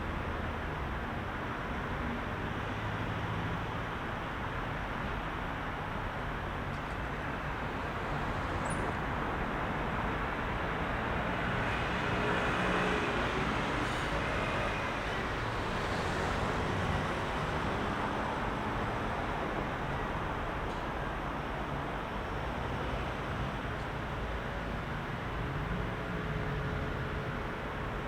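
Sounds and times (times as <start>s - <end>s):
dense road traffic: 0.0s - 28.0s.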